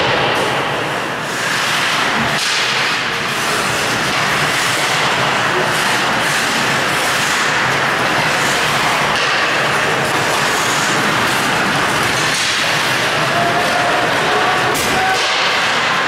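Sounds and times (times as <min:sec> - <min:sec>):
steady loud hiss: 0:00.0 - 0:16.0
clicks of skates sticks and puck: 0:01.3 - 0:16.0.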